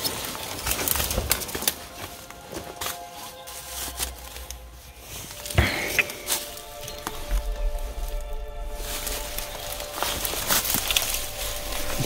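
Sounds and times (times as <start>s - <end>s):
footsteps in dry debris: 0.0s - 12.0s.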